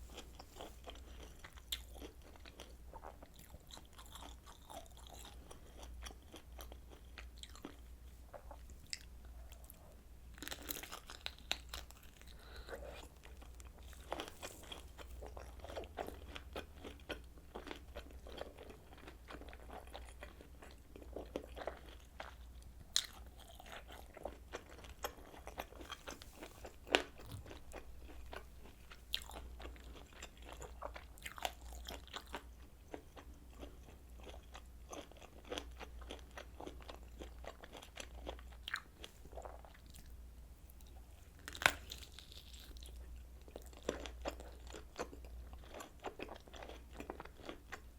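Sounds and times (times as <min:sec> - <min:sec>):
chewing and biting sausage: 0:00.1 - 0:40.2, 0:40.8 - 0:47.9.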